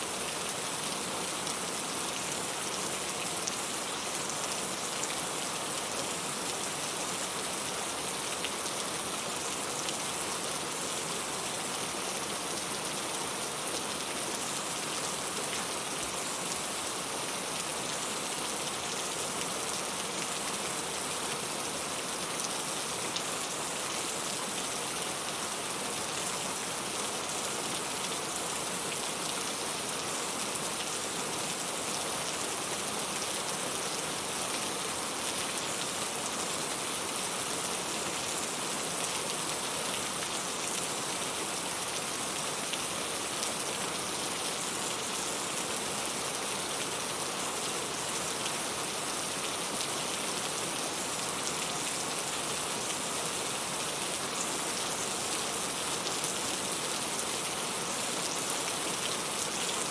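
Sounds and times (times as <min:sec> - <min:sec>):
rain pattering on a surface: 0:00.1 - 0:59.9.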